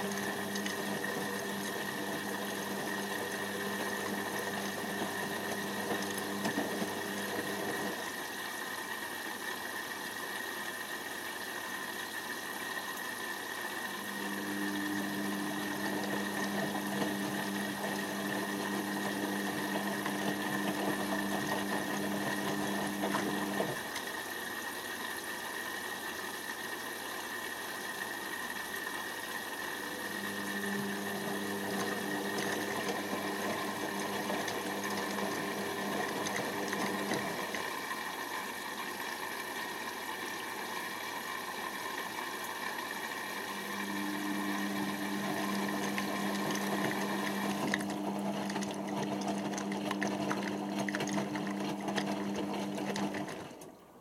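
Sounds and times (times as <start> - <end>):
washing machine motor hum: 0.0 - 11.1, 11.8 - 54.0
water swishing in drum: 0.0 - 25.1, 27.9 - 53.7.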